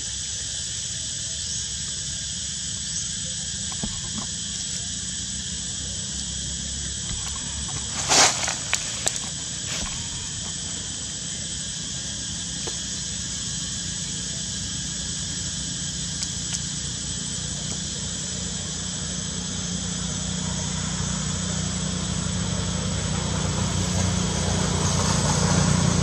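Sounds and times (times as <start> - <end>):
high-pitched hiss: 0.0 - 26.0
low engine hum: 2.6 - 26.0.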